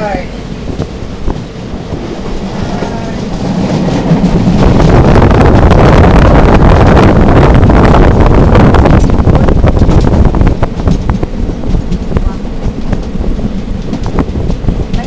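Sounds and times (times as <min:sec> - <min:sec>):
train carriage rumbling and rattling: 0:00.0 - 0:15.0
wind on microphone: 0:00.0 - 0:15.0.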